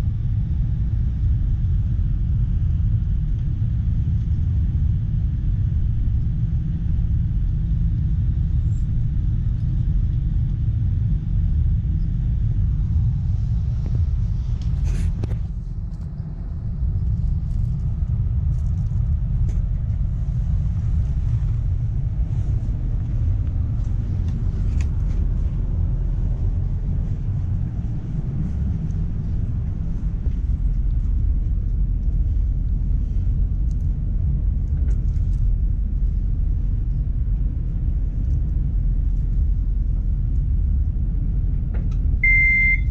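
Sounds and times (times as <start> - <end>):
train rumble on rails: 0.0 - 42.9.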